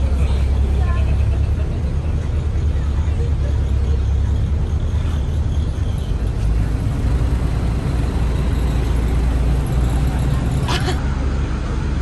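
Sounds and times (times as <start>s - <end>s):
ferry engine rumbling: 0.0s - 12.0s.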